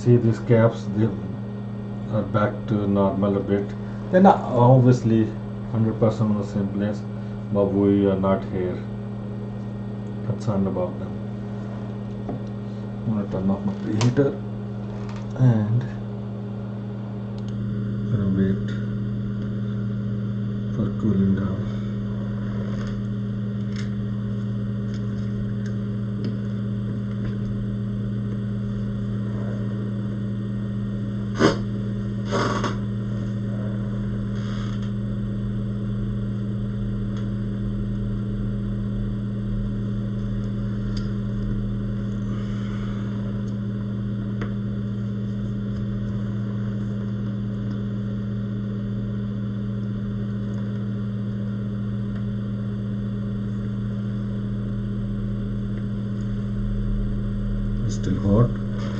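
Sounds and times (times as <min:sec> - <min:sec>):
electrical equipment humming: 0:00.0 - 0:58.9.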